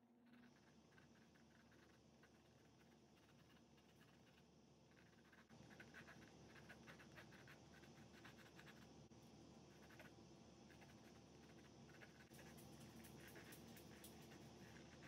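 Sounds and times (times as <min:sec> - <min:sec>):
colour pencil scratching on canvas: 0:00.4 - 0:08.9, 0:10.7 - 0:15.0.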